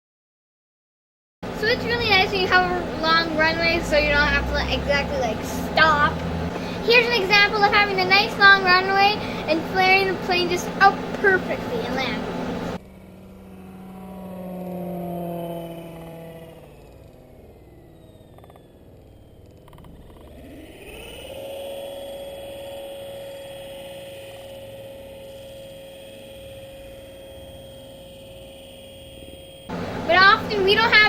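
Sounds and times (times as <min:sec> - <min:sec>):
electric ducted fan whining: 0:01.4 - 0:31.0.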